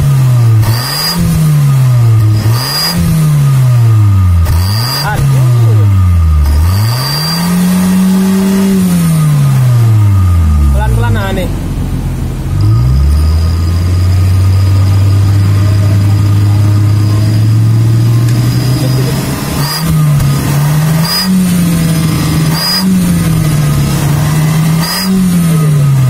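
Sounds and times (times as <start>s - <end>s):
car engine revving: 0.0s - 26.0s
exhaust whistle: 0.7s - 11.6s, 12.4s - 26.0s.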